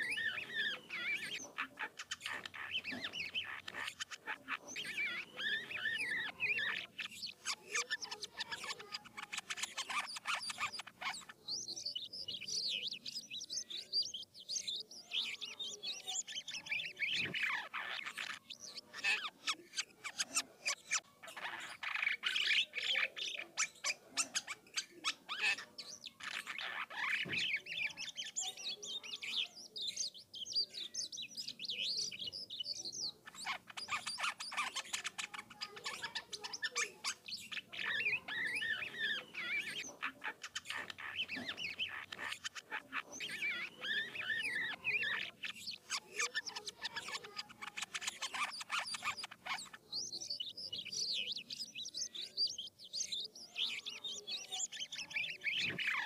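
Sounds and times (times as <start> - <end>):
starling singing: 0.0 - 56.0.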